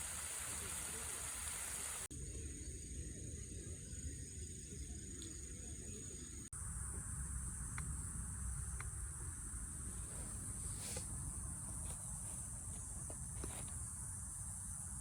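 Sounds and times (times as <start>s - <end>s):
insects trilling: 0.2s - 15.0s.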